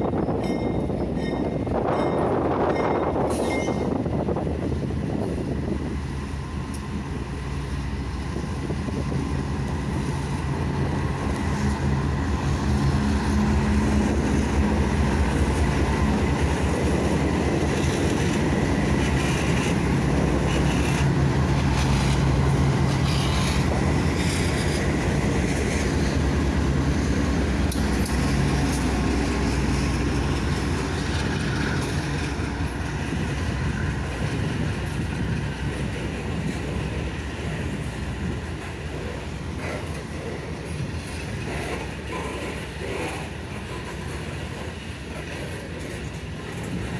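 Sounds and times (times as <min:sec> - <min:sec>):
locomotive engines humming: 0:00.0 - 0:46.9
train wheels rumbling on rails: 0:00.0 - 0:46.9.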